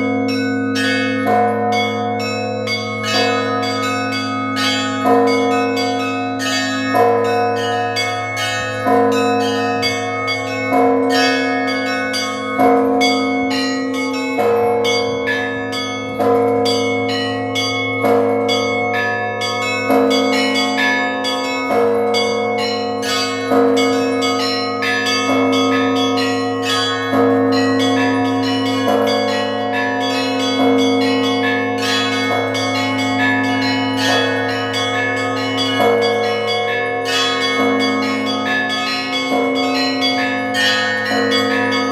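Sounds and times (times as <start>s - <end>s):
heavy bell strikes: 0.0s - 41.9s
low bell hum: 0.0s - 41.9s
small bells chiming: 0.0s - 41.9s.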